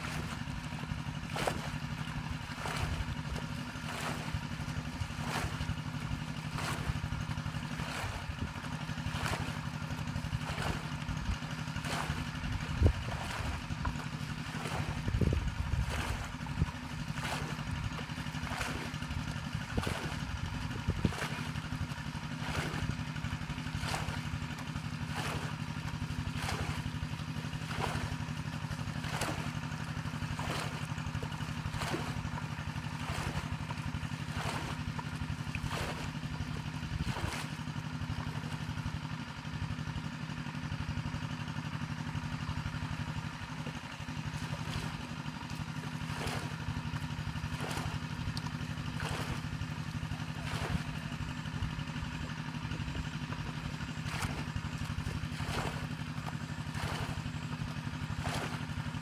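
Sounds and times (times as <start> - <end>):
small engine droning: 0.0 - 59.0
water splashing from bucket: 0.0 - 59.0.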